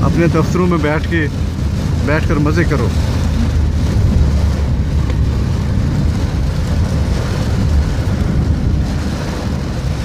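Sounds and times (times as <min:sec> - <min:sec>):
car driving on wet road: 0:00.0 - 0:10.0
heavy rain on car: 0:00.0 - 0:10.0.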